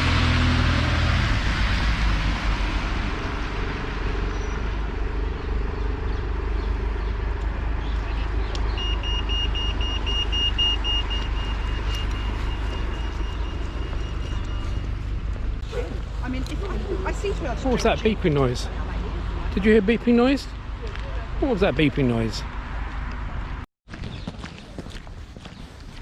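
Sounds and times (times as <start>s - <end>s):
car passing: 0.0s - 23.6s
traffic rumble: 0.0s - 26.0s.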